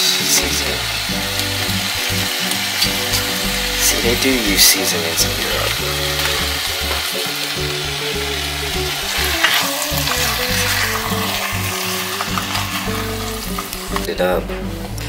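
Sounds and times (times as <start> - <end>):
beef sizzling in fat: 0.0 - 14.1.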